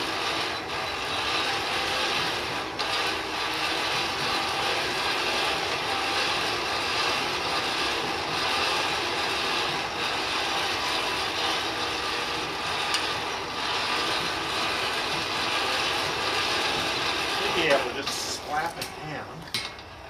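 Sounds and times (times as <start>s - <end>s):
forge air blower rushing: 0.0s - 20.0s.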